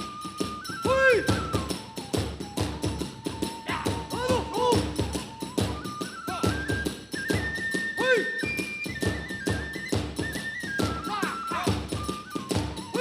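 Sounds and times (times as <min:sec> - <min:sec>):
bamboo flute high notes: 0:00.0 - 0:13.0.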